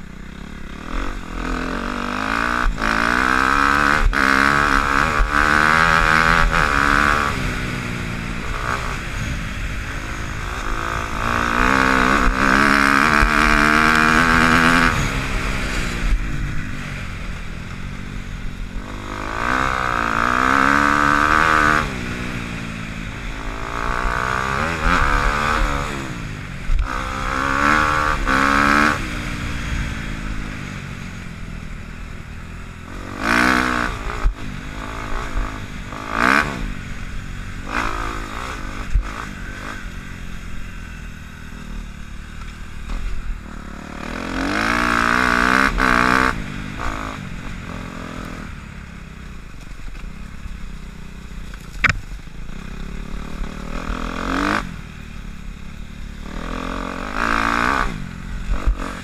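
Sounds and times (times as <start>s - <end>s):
dirt bike engine revving: 0.0s - 48.7s, 49.3s - 59.0s.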